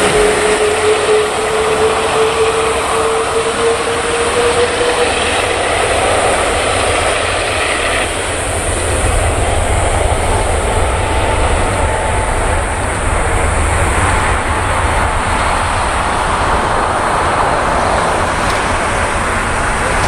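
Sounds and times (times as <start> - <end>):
deep engine rumble: 0.0 - 20.0
jet engines running: 0.0 - 20.0.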